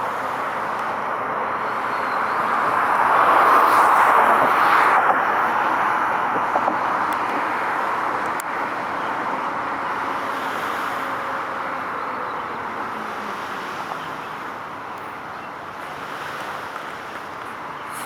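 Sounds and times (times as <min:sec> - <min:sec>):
low traffic hum: 0:00.0 - 0:18.0.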